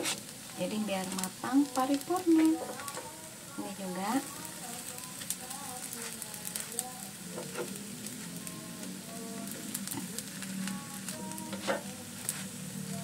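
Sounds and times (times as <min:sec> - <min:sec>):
cakes sizzling in pan: 0:00.0 - 0:13.0.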